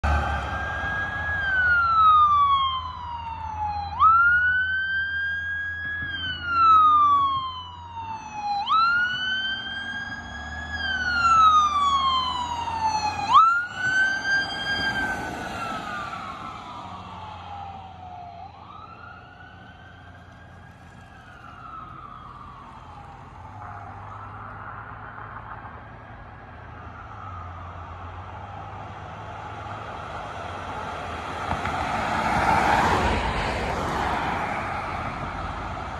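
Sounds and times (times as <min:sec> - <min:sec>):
ambulance siren wailing: 0:00.0 - 0:35.9
engine and road noise: 0:00.0 - 0:35.9.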